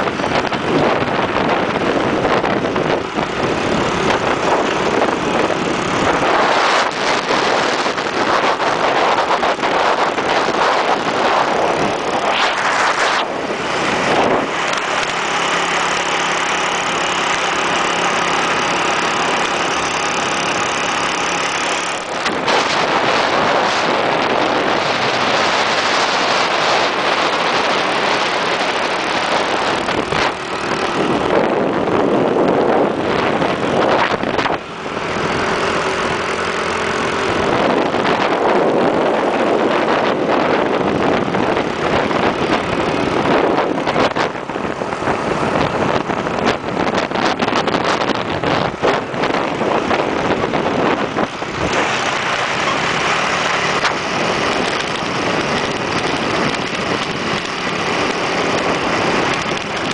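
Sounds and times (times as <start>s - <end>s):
motorbike engine running: 0.0s - 59.9s
wind rushing over microphone: 0.0s - 59.9s.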